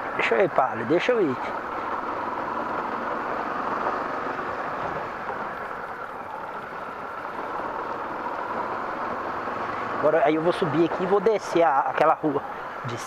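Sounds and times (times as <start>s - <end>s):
motorcycle engine running: 0.0s - 12.9s
road and wind noise: 0.0s - 13.0s.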